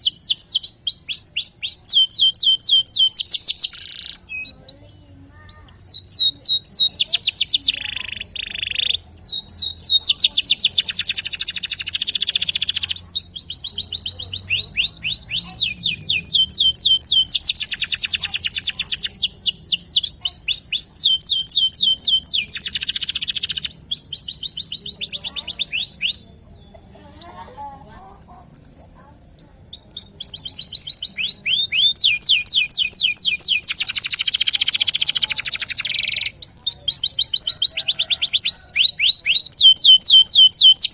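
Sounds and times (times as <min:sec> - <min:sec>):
canary singing trills: 0:00.0 - 0:28.4, 0:29.1 - 0:40.9.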